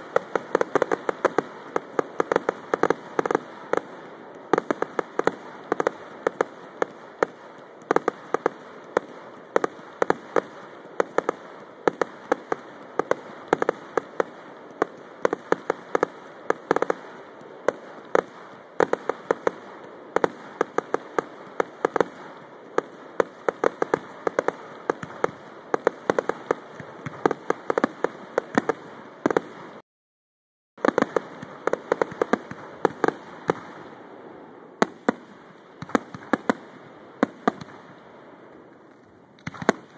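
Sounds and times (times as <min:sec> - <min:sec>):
fireworks bangs and crackles: 0:00.0 - 0:29.8, 0:30.8 - 0:39.9.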